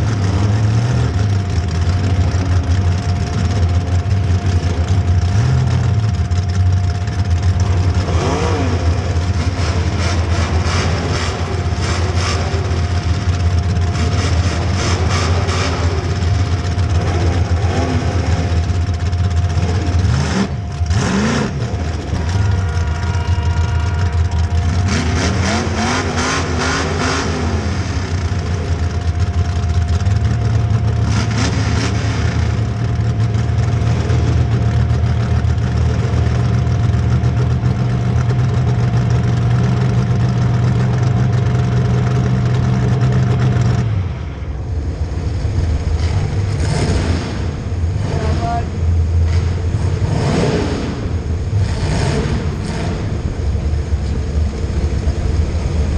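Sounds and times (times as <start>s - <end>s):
car engines revving: 0.0s - 55.9s.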